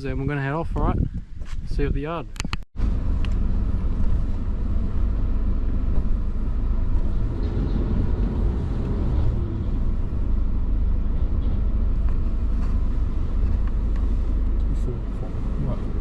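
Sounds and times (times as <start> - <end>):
vehicle engine and road noise: 2.3 - 16.0.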